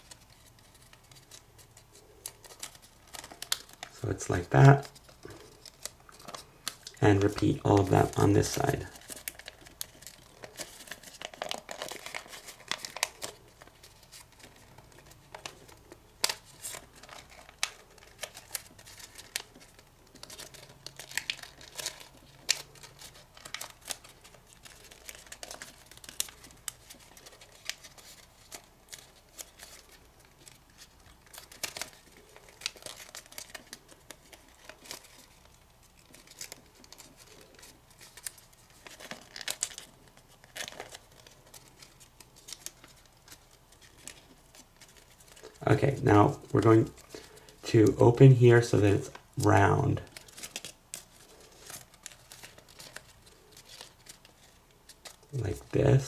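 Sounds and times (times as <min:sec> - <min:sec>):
paper crinkling: 0:00.0 - 0:56.0.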